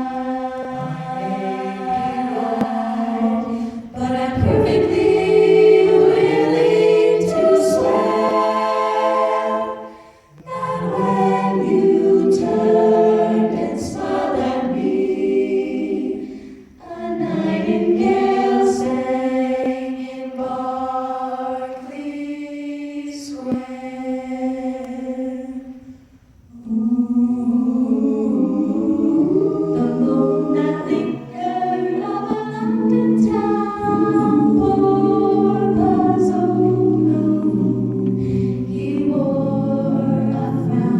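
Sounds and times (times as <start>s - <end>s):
choir singing held chords: 0.0s - 40.9s.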